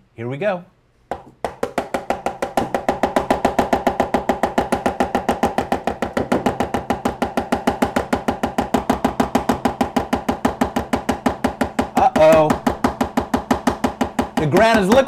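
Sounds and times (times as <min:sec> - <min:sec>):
mallet beating metal pan: 0:01.1 - 0:15.0.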